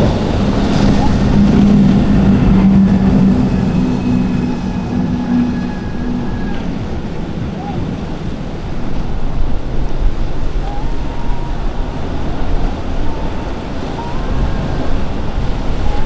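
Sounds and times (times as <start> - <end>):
choppy sea: 0.0 - 16.0
motor yacht engine: 0.0 - 16.0
wind on microphone: 0.0 - 16.0.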